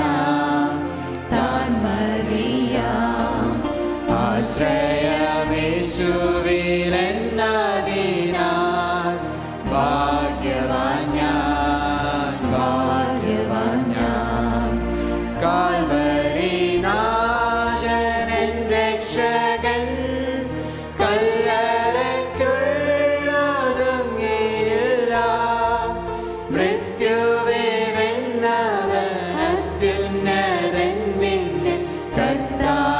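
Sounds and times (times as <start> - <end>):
group singing a hymn: 0.0 - 32.9
instrumental accompaniment: 0.0 - 32.9.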